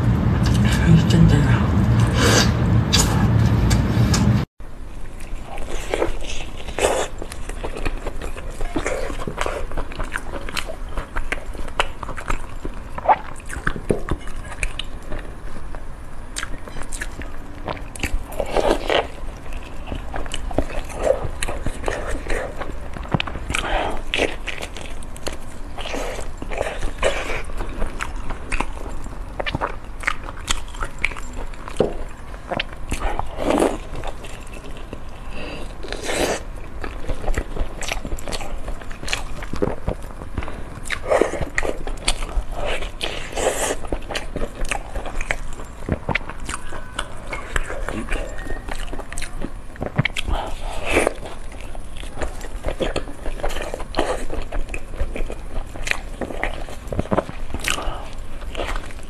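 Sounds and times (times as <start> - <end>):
crunchy chewing: 5.0 - 59.0.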